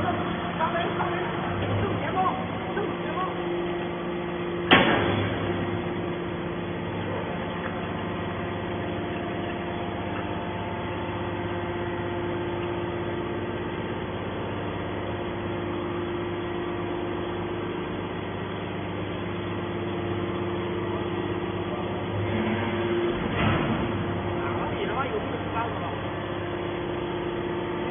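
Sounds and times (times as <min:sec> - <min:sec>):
hydraulic machine hum: 0:00.0 - 0:27.9.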